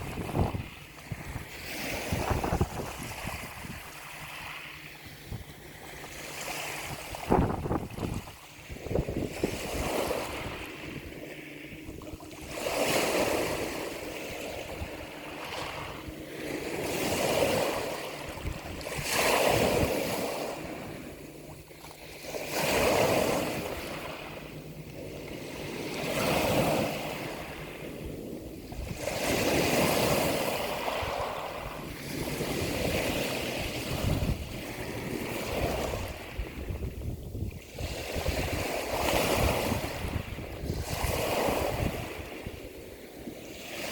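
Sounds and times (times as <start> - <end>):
sea waves washing in: 0.0 - 43.9.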